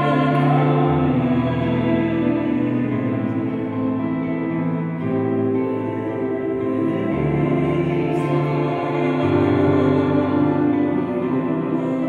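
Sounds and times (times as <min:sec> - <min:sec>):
low sustained accompaniment: 0:00.0 - 0:12.0.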